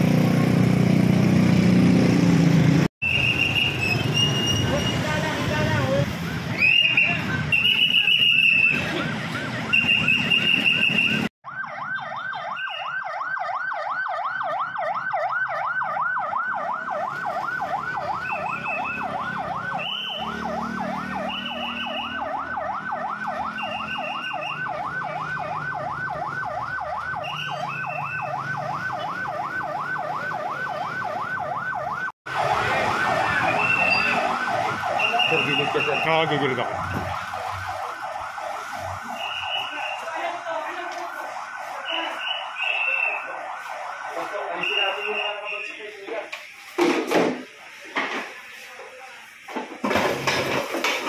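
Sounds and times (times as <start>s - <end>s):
ambulance yelp siren: 3.0s - 46.4s.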